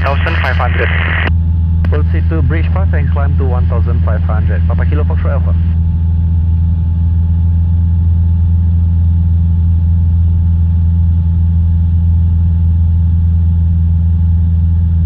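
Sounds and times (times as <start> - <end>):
light aircraft engine droning: 0.0 - 15.0.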